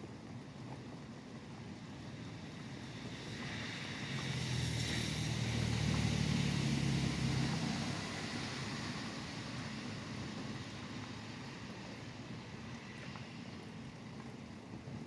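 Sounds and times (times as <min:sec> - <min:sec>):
rain: 0:00.0 - 0:15.0
tyres hissing on wet road: 0:01.6 - 0:14.0.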